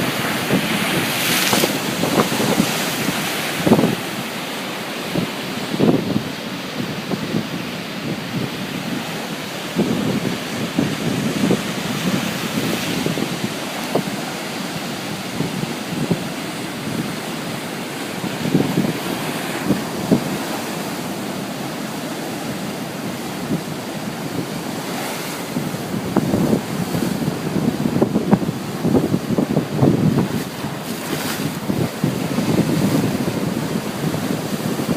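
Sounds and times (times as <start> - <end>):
ocean surf breaking: 0.0 - 34.9
wind buffeting microphone: 0.0 - 34.9.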